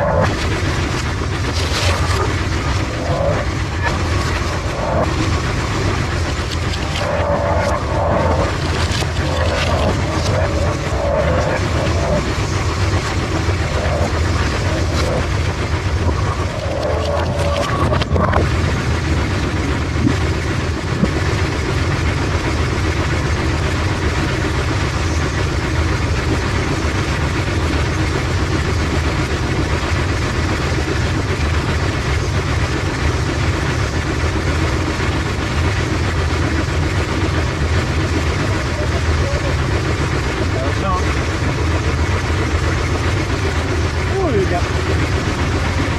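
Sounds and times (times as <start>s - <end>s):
pinsetter machinery humming: 0.0s - 45.9s.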